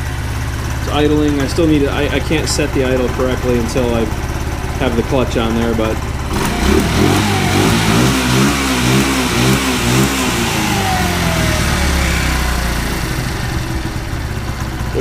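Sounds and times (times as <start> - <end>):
scooter engine revving and idling: 0.0 - 15.0.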